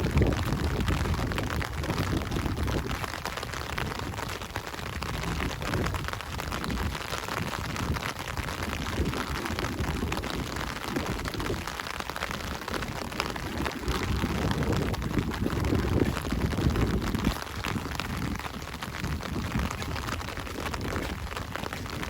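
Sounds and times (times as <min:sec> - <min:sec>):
steady rain patter: 0:00.0 - 0:22.0.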